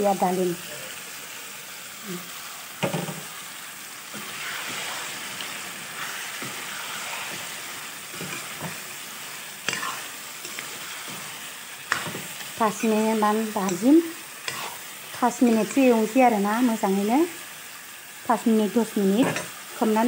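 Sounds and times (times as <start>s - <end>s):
curry sizzling in a pan: 0.0s - 20.0s.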